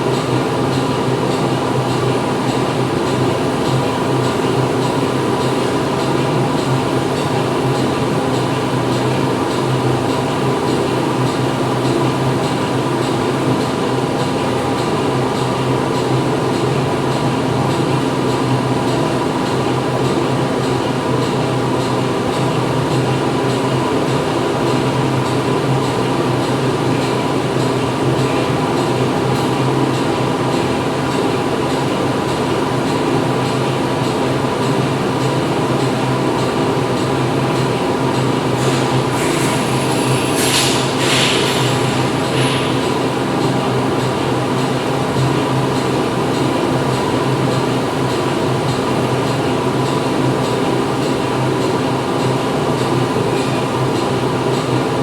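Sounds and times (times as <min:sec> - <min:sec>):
factory machinery drone: 0:00.0 - 0:55.0.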